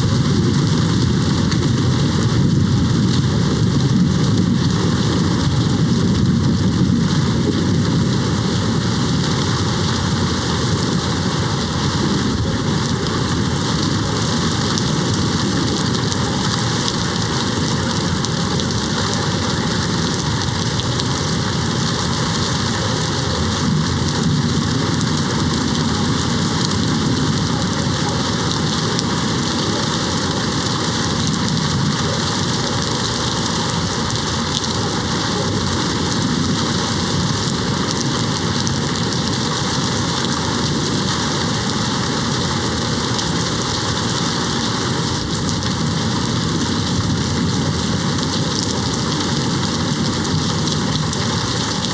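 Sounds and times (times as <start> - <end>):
distant thunder rumbling: 0.0 - 51.9
heavy rain hitting a window: 0.0 - 51.9.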